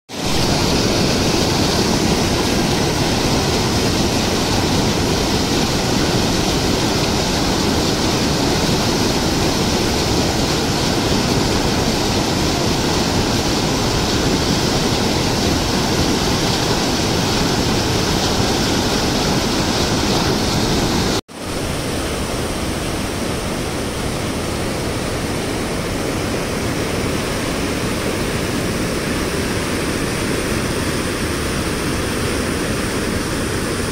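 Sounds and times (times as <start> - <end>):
water rushing through sluice gates: 0.1 - 33.9.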